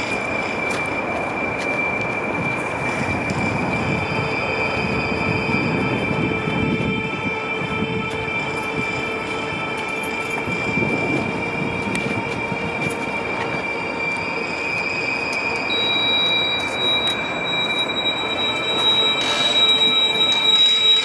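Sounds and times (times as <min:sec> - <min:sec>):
high-pitched wheel squeal: 0:00.0 - 0:21.0
train wheels on rails: 0:00.0 - 0:21.0.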